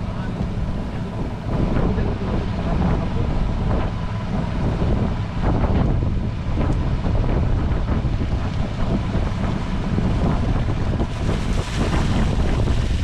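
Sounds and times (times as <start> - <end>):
steady low rumble: 0.0 - 13.0
wind buffeting microphone: 0.0 - 13.0.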